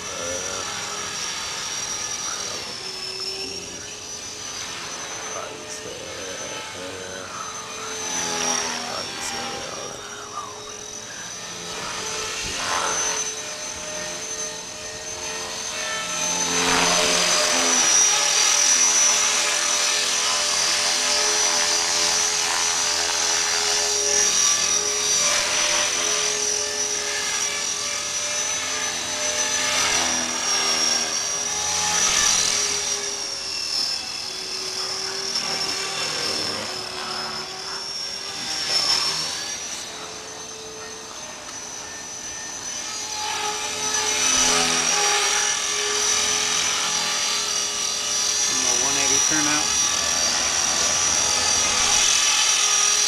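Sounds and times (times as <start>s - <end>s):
rc helicopter motor whine: 0.0s - 53.0s.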